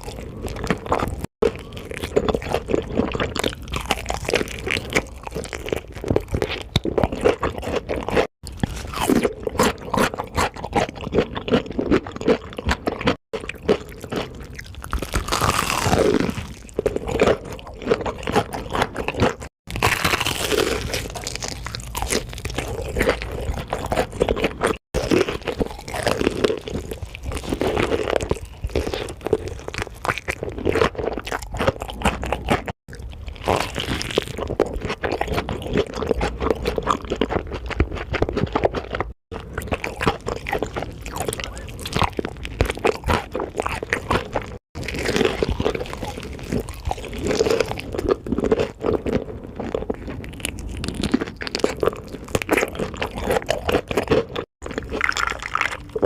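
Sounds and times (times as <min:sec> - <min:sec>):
crunching and chewing fried chicken: 0:00.0 - 0:56.0.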